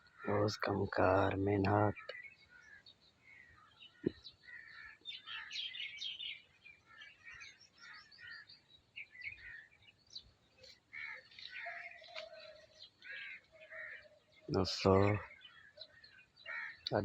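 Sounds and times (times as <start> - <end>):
small birds chirping and twittering: 0.0 - 17.0.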